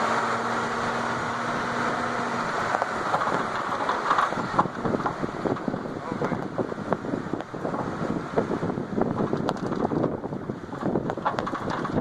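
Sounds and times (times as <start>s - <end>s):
fire truck engine running: 0.0s - 12.0s.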